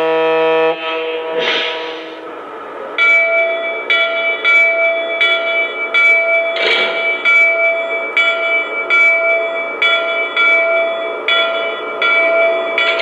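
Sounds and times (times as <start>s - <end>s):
locomotive bell ringing: 0.0s - 13.0s.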